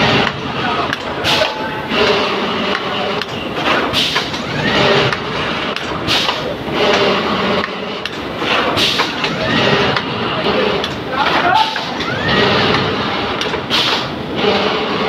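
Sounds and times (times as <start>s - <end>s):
screen-printing machine running: 0.0s - 15.0s.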